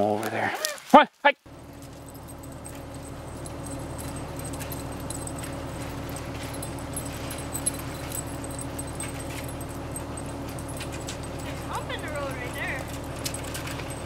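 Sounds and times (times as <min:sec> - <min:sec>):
light ticks and jingling: 0:01.5 - 0:14.0
steady low hum: 0:01.5 - 0:14.0.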